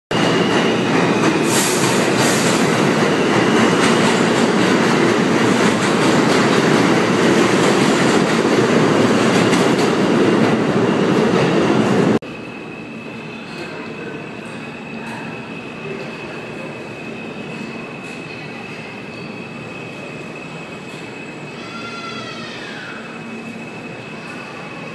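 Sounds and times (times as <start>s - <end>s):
steel train wheels on rails: 0.1s - 24.9s.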